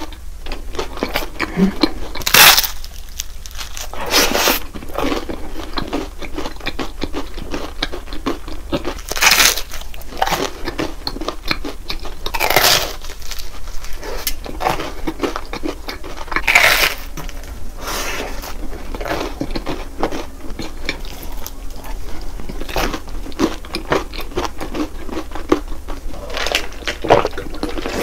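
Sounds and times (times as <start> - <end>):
crunching bites: 0.0 - 17.5, 18.5 - 28.0
crackly chewing: 0.0 - 28.0.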